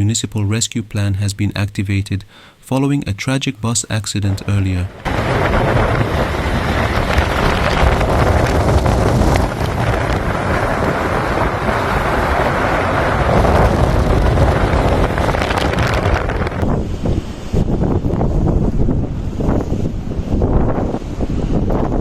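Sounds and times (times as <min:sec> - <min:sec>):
storm wind on microphone: 0:04.3 - 0:22.0.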